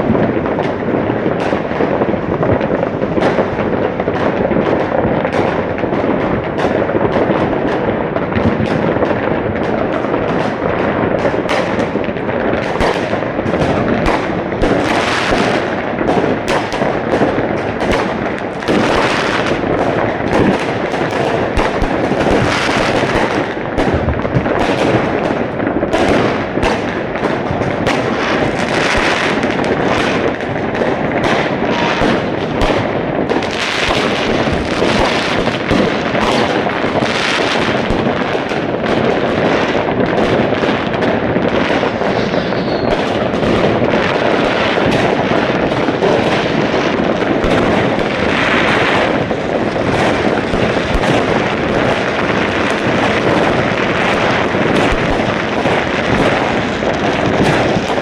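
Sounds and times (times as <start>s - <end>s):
firecrackers crackling: 0.0s - 58.0s
fireworks bangs: 0.0s - 58.0s.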